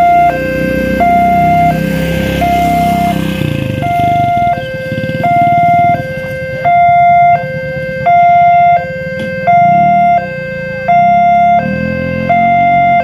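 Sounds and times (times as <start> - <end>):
level crossing two-tone alarm: 0.0 - 13.0.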